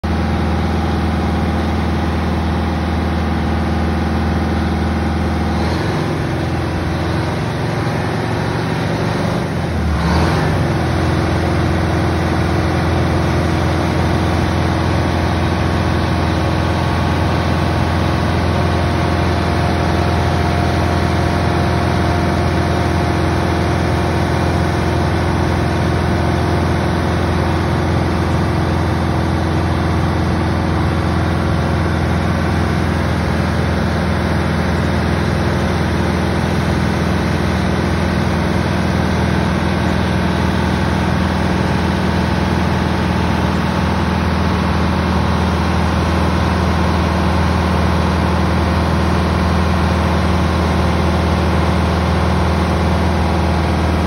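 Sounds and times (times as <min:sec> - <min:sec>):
drill rig engine running: 0:00.0 - 0:54.0.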